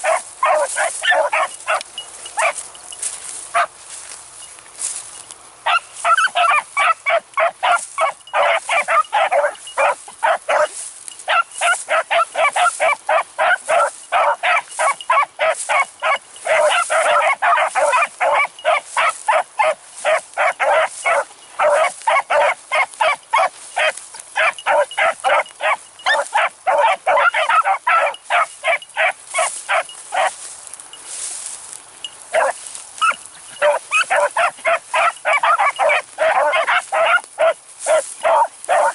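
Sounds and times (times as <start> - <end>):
hounds baying: 0.0 - 4.6, 5.2 - 30.8, 32.0 - 38.9.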